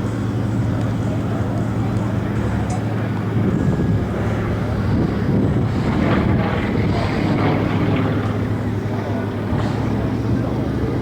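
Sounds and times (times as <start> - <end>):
radial aircraft engine running: 0.0 - 11.0
wind noise on microphone: 0.0 - 11.0.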